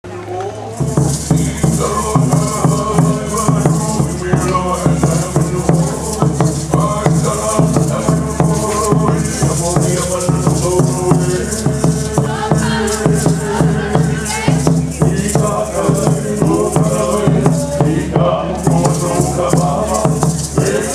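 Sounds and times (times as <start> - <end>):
hula music with pulsing beat: 0.7 - 20.9
feathered gourd rattles shaking: 0.8 - 20.9.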